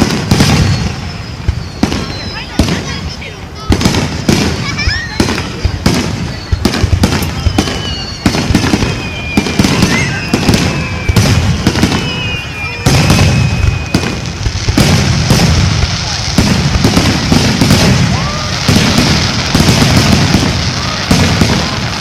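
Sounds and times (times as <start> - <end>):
fireworks crackling and banging: 0.0 - 22.0
fireworks whistling: 0.0 - 22.0.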